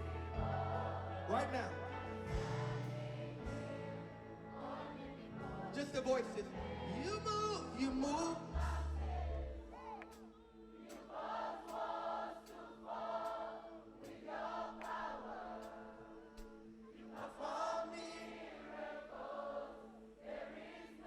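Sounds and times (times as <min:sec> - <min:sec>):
choir singing gospel song: 0:00.0 - 0:21.0.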